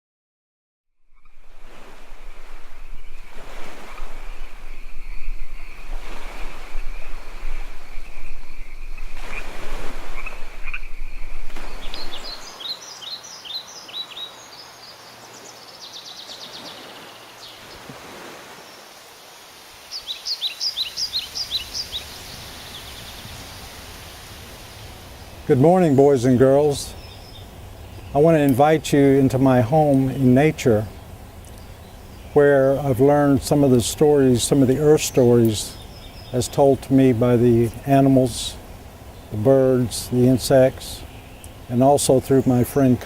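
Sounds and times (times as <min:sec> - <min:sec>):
birds chirping: 0:01.1 - 0:43.0.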